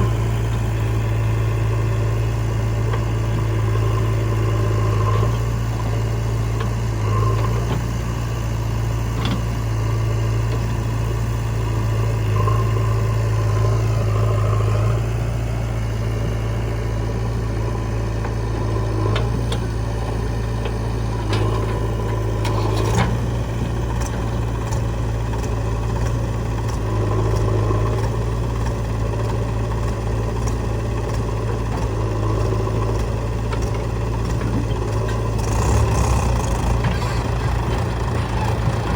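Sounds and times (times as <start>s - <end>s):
heavy diesel engine idling: 0.0s - 38.9s.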